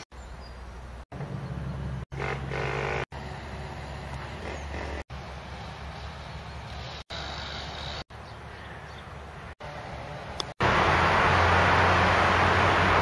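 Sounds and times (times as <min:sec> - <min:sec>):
engine hum: 0:00.0 - 0:13.0
rumble of motor traffic: 0:00.0 - 0:13.0.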